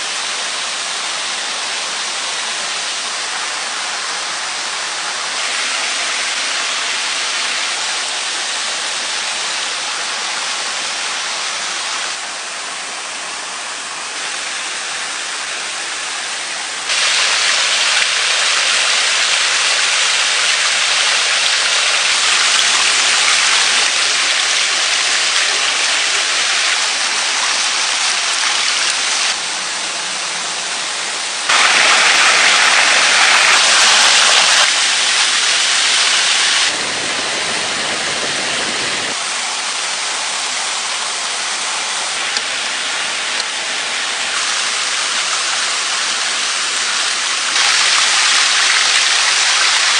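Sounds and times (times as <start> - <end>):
stream rushing over stones: 0.0 - 49.9.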